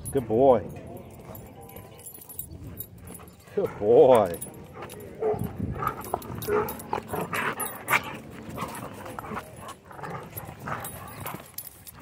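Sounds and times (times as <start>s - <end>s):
dogs panting: 0.0s - 12.0s
dogs yipping and barking: 2.1s - 12.0s.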